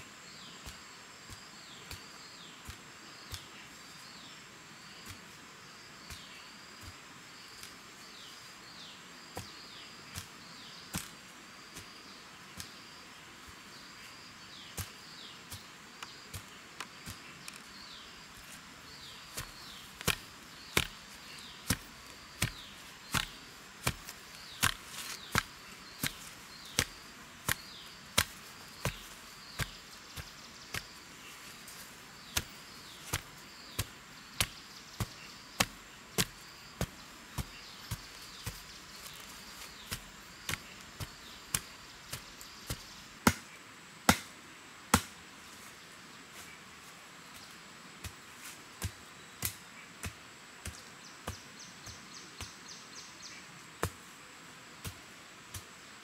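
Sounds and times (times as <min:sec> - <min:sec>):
wooden pole tamping soil: 0:00.0 - 0:43.5, 0:47.4 - 0:52.6, 0:54.8 - 0:55.9.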